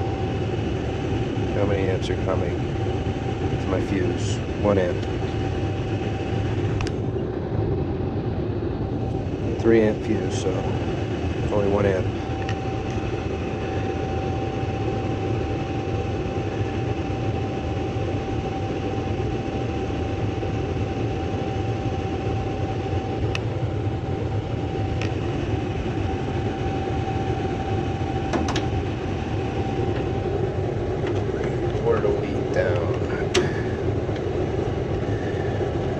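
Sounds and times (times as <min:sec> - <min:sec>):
furnace blower rush: 0:00.0 - 0:18.7, 0:20.2 - 0:35.9
constant high hum: 0:00.0 - 0:35.9.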